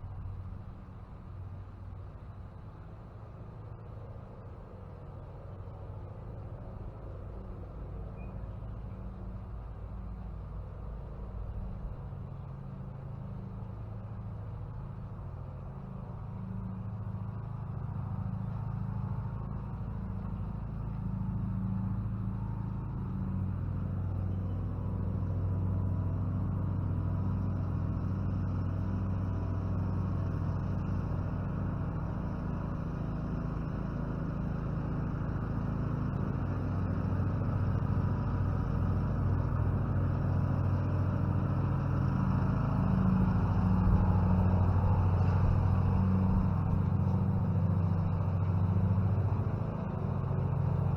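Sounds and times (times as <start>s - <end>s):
low engine hum: 0.0s - 50.9s.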